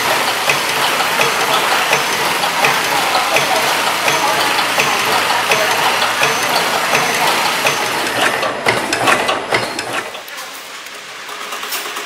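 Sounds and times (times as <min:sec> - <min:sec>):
continuous mechanical whir: 0:00.0 - 0:12.0
packing machine clicking and clacking: 0:00.0 - 0:12.0.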